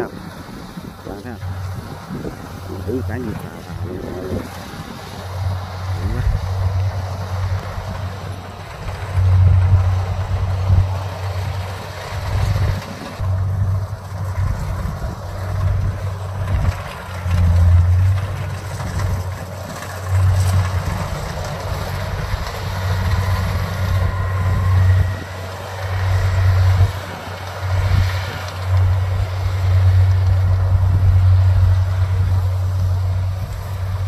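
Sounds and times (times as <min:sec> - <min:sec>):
combine harvester engine running: 0:00.0 - 0:34.0
wind buffeting microphone: 0:00.0 - 0:34.0.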